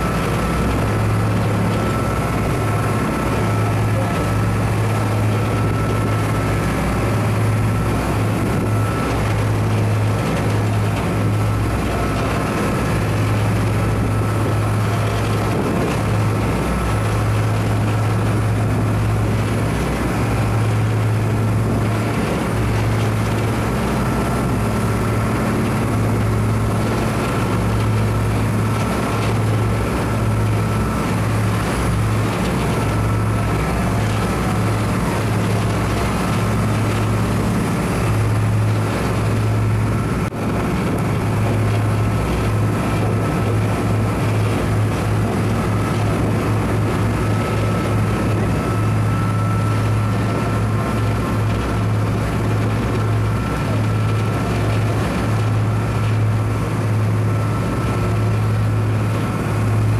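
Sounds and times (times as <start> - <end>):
ship engines droning: 0.0 - 59.9
thin constant whine: 0.0 - 59.9
wind and water noise: 0.0 - 59.9.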